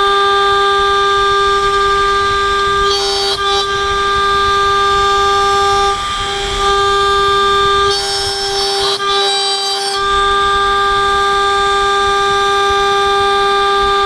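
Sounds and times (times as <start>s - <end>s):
router spindle whine milling metal: 0.0s - 14.0s.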